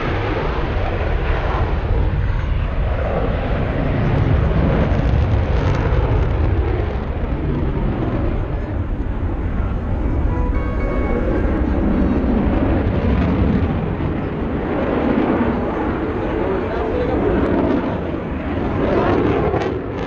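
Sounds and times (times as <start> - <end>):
jet engines roaring: 0.0 - 10.4, 11.4 - 20.0.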